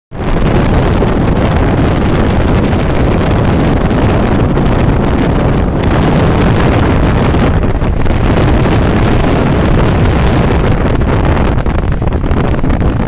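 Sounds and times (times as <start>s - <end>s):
fast train rumbling: 0.1s - 13.0s
wind on microphone: 0.1s - 13.0s.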